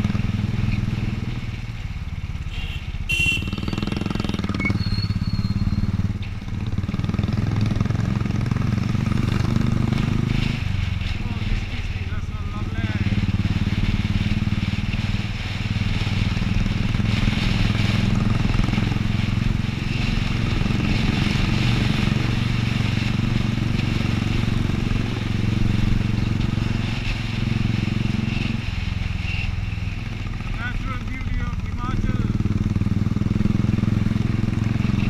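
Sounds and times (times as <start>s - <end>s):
motorcycle engine cruising: 0.0s - 35.0s
wind and road noise: 0.0s - 35.0s.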